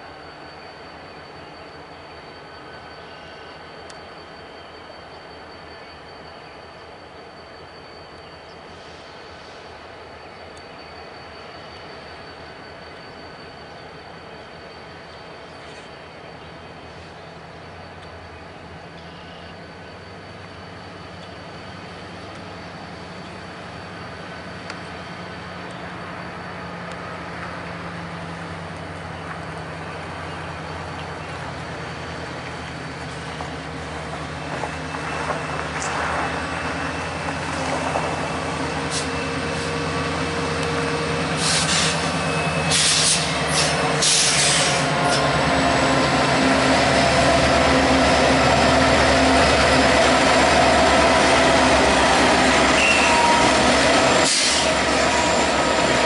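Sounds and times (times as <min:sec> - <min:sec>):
diesel locomotives passing: 0:00.0 - 0:56.0
train high-pitched squeals: 0:00.0 - 0:56.0.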